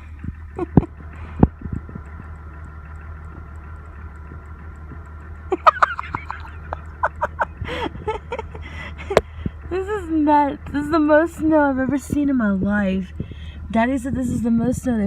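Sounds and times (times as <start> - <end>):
pickup truck engine idling: 0.0 - 15.0.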